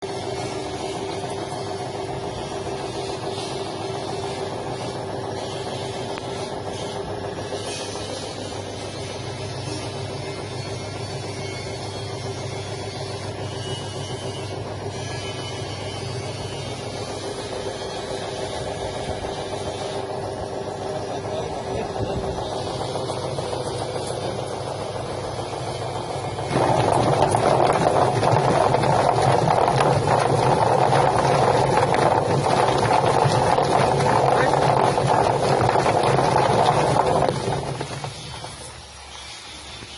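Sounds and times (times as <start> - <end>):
plucking machine motor hum: 0.0 - 39.1.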